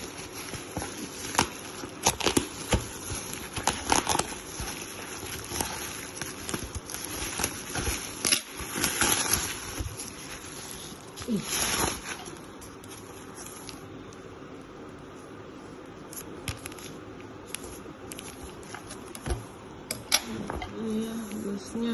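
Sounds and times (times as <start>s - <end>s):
packaging crinkling: 0.0s - 21.7s.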